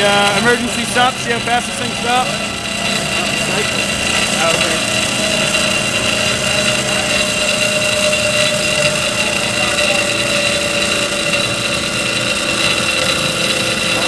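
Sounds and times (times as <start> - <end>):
band saw running: 0.0 - 14.0.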